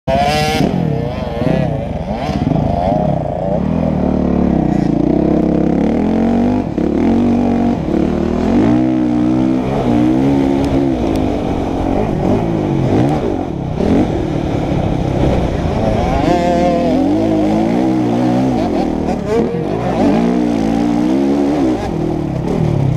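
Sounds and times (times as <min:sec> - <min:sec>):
motocross bike engine revving: 0:00.1 - 0:22.9.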